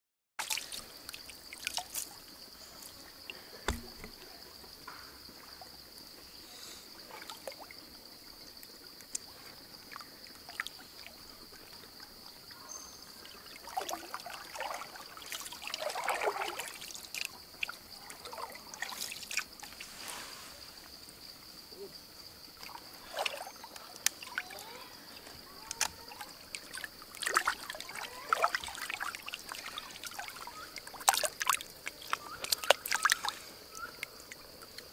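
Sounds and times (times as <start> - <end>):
stream water trickling and splashing: 0.4 - 34.9.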